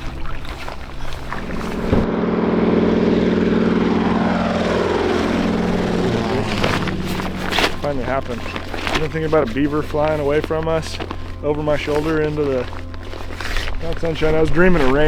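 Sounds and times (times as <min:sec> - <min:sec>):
propeller plane engine: 0:00.0 - 0:15.0.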